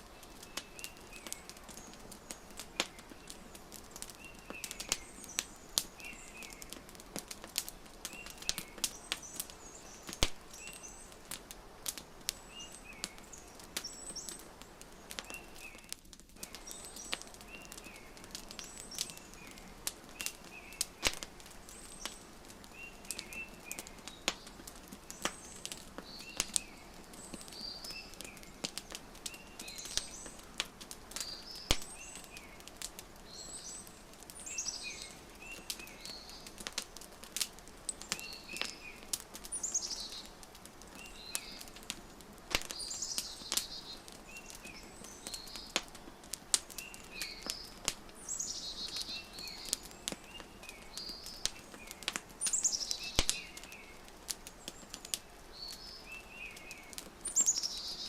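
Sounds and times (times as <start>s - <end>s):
small birds chirping: 0.0s - 58.0s
wood fire crackling: 0.0s - 58.0s.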